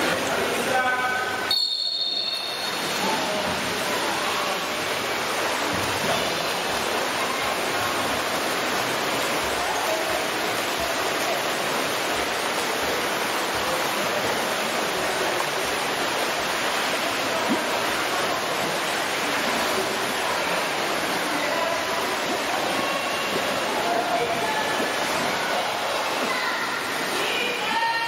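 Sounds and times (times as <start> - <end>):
swimmers splashing: 0.0 - 28.0.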